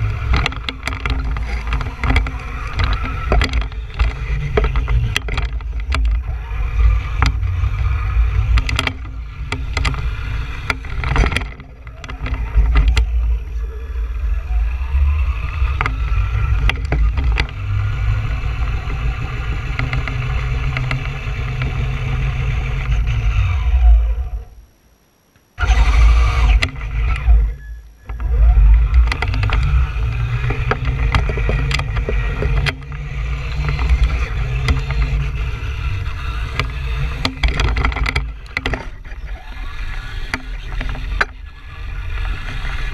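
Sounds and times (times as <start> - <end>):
clicks and knocks from bumps: 0.0 - 13.4, 15.4 - 23.0, 26.4 - 42.9
tyres and chassis rumbling: 0.0 - 24.6, 25.2 - 42.9
electric motor whine: 0.0 - 42.9.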